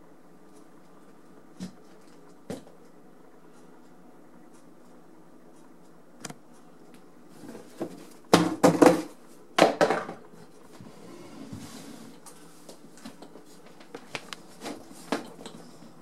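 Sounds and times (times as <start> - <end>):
faint room hum: 0.0 - 16.0.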